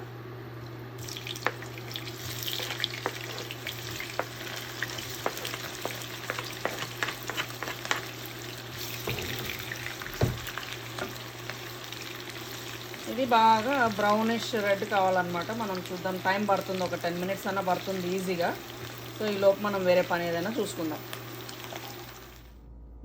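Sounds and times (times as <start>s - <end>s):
onions sizzling in hot oil: 1.0s - 22.5s.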